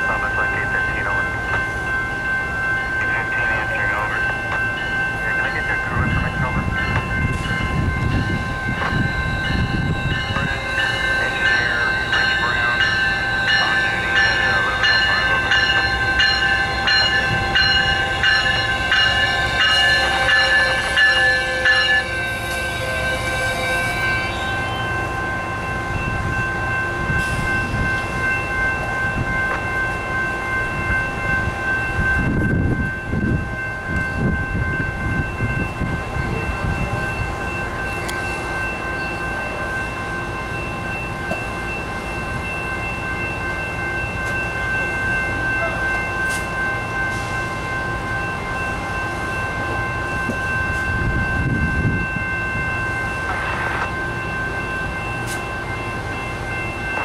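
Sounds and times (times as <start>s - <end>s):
diesel locomotive rumble: 0.0s - 57.0s
steady high tones: 0.0s - 57.0s
train bell ringing: 0.0s - 57.0s.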